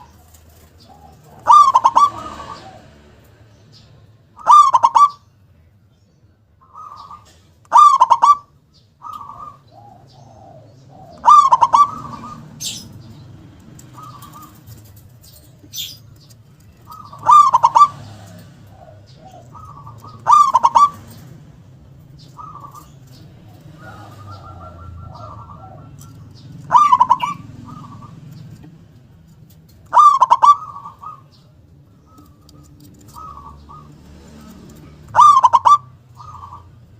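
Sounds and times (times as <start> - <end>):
dove cooing: 0.0 - 3.4, 4.3 - 5.3, 6.6 - 36.9.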